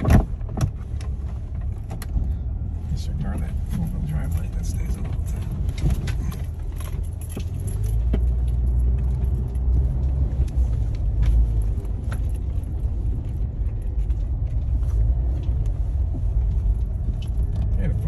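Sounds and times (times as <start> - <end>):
engine low rumble in cabin: 0.0 - 18.0
light clicks and rattles: 3.1 - 18.0.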